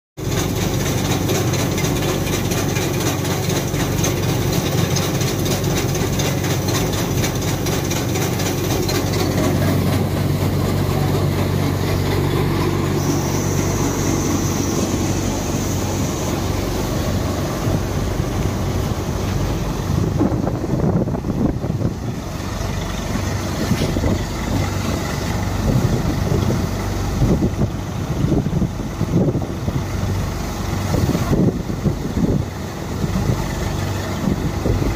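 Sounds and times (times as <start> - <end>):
rushing noise: 0.2 - 32.1
thresher engine drone: 0.2 - 34.9.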